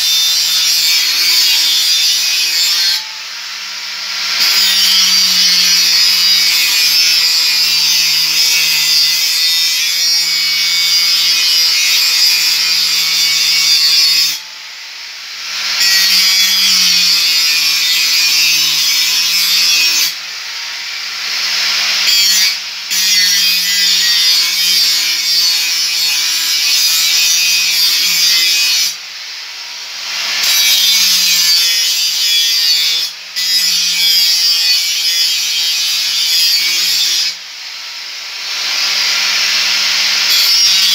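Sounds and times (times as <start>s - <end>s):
angle grinder cutting steel: 0.0s - 40.9s.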